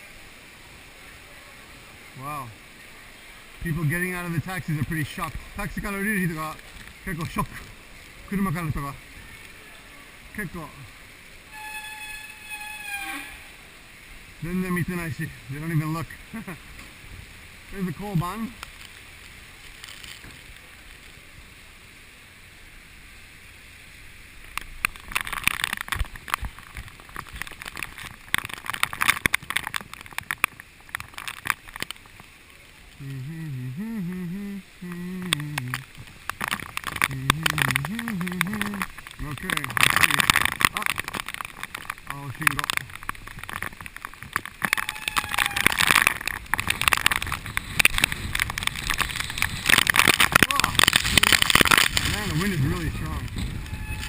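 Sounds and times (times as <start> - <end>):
wind and rain hiss: 0.0 - 54.0
raindrops tapping on camera: 2.0 - 54.0.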